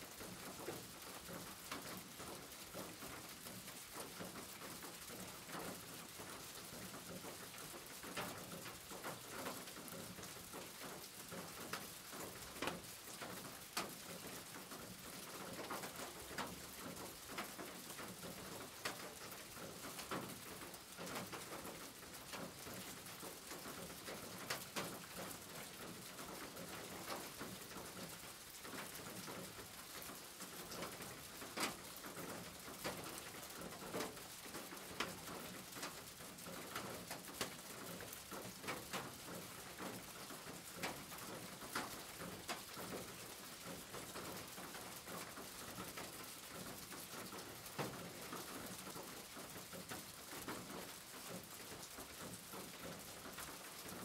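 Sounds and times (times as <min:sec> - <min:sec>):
rain on a metal roof: 0:00.0 - 0:54.0.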